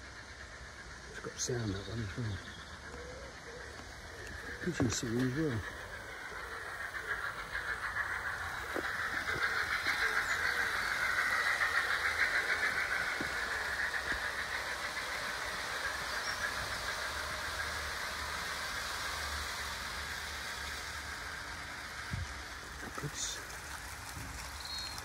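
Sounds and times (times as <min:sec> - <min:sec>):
model train whirring clatter: 0:00.0 - 0:25.0.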